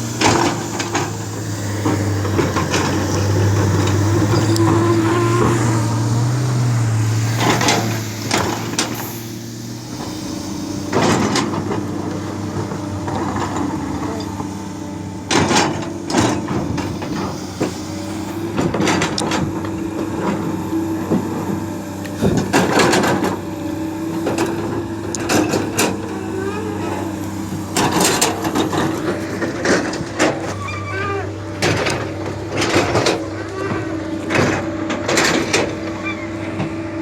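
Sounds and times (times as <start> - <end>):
bucket clanking and scraping soil: 0.0 - 37.0
excavator diesel engine running: 0.0 - 37.0.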